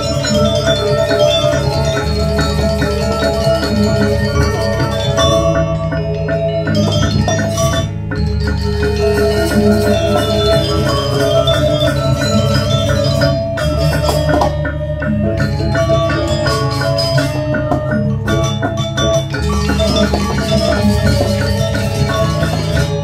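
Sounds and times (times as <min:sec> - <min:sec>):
gamelan metallophones: 0:00.0 - 0:23.0.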